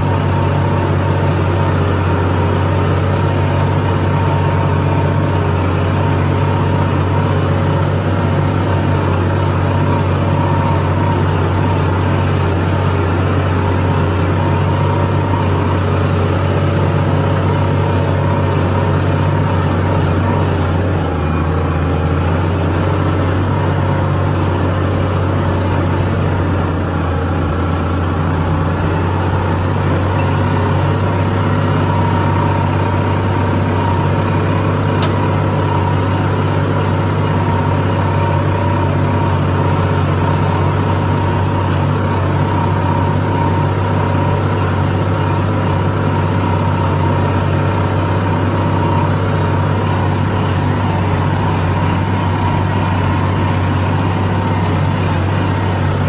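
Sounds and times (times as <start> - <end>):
steady higher whine: 0.0 - 56.0
tractor engine drone: 0.0 - 56.0.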